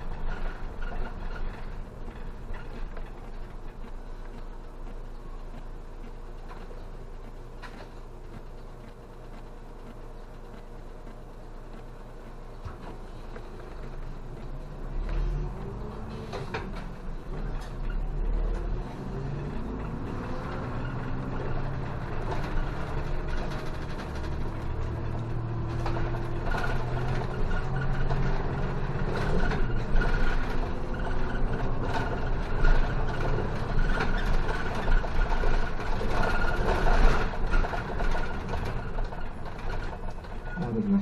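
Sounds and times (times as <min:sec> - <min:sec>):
bus engine running: 0:00.0 - 0:41.0
road noise: 0:00.0 - 0:41.0.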